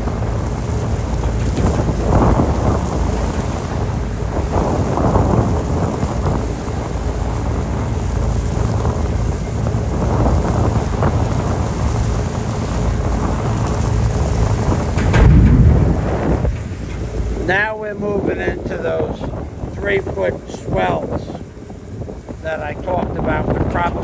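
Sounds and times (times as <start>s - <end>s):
ferry engine rumble: 0.0s - 24.0s
wind buffeting the microphone: 0.0s - 24.0s.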